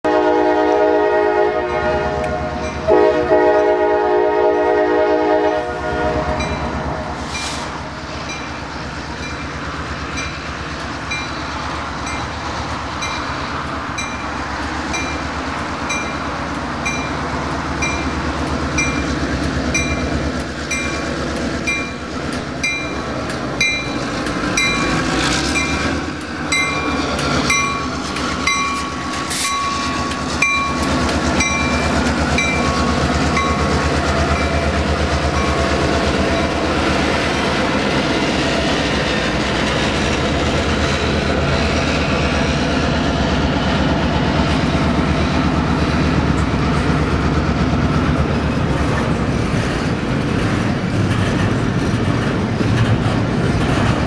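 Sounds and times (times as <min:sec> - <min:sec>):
freight train rumbling: 0:00.0 - 0:54.0
wheels clicking over rail joints: 0:07.3 - 0:54.0.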